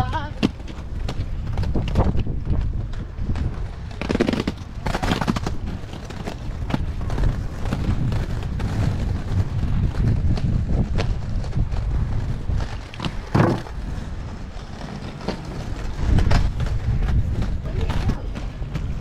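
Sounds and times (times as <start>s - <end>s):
skate wheels rolling on stone: 0.0s - 19.0s
skates clicking and knocking: 0.0s - 19.0s.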